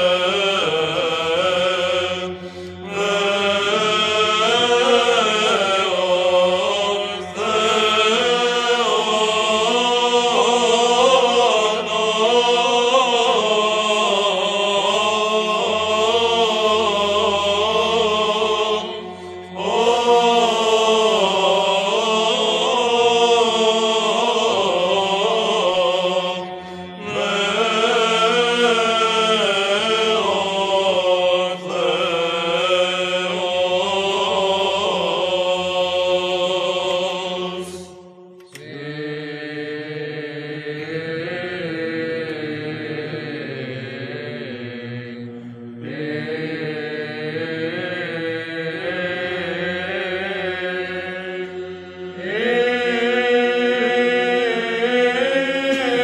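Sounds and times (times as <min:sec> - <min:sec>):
men chanting over a drone: 0:00.0 - 0:56.0.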